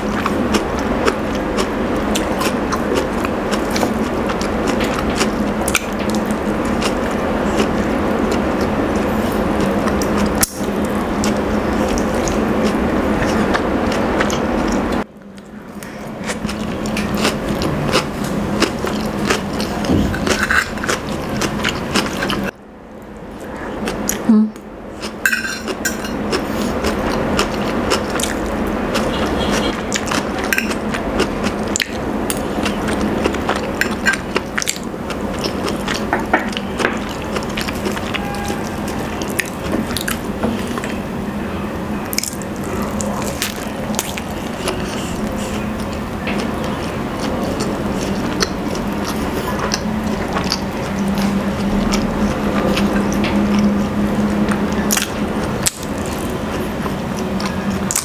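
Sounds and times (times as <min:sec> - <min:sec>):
person chewing food: 0:00.0 - 0:24.3, 0:24.9 - 0:41.1, 0:42.0 - 0:58.0.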